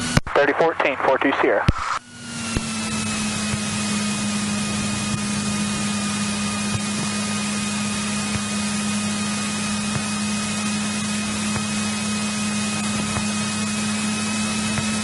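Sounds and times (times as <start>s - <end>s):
airplane engine droning: 0.0s - 15.0s.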